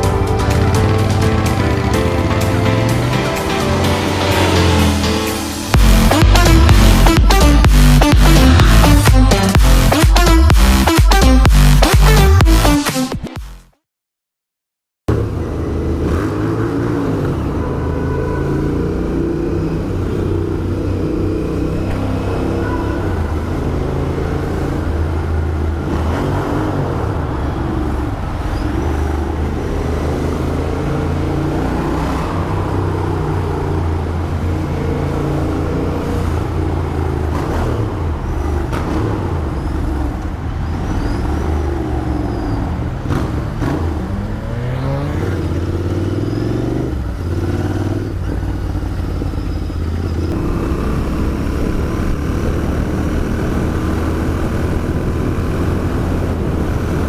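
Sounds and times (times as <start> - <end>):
motorcycle engine while riding: 0.0 - 7.4, 15.1 - 57.0.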